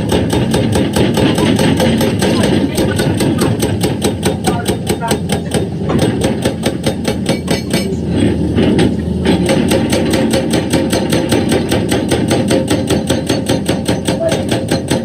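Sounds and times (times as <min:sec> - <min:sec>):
engine rumble: 0:00.0 - 0:15.0
hydraulic breaker hammering rock: 0:00.0 - 0:15.0.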